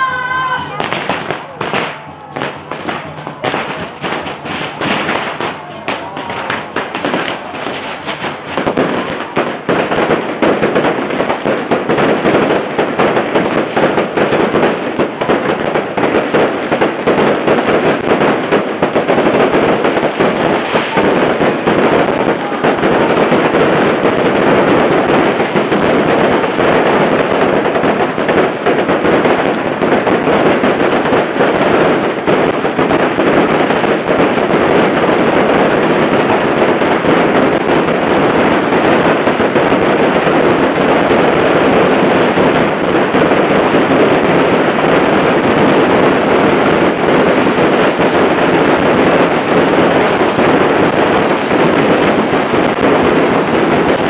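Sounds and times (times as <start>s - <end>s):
firecrackers banging and crackling: 0.0s - 54.0s.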